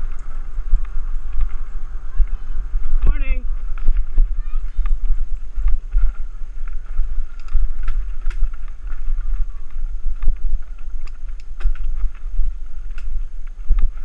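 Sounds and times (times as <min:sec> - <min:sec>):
bike tyres rattling over stones: 0:00.0 - 0:14.0
low rumble: 0:00.0 - 0:14.0
wind buffeting microphone: 0:00.0 - 0:14.0.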